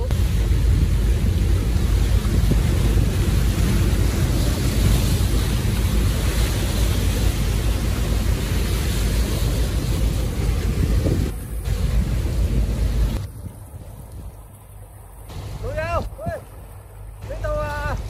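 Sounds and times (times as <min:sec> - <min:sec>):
waves breaking against rocks: 0:00.0 - 0:18.0
wind buffeting microphone: 0:00.0 - 0:18.0.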